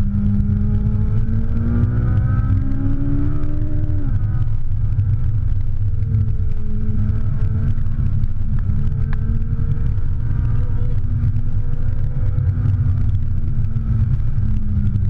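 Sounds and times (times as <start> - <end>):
car engine droning: 0.0 - 15.0
road noise: 0.0 - 15.0.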